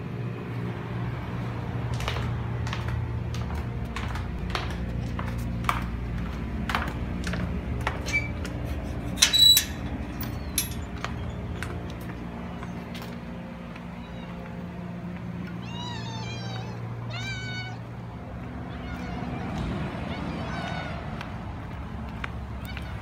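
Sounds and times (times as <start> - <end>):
low hum: 0.0 - 22.6.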